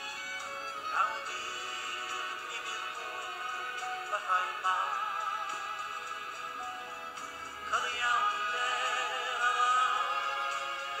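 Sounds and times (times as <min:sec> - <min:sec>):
song with sung voice: 0:00.0 - 0:11.0.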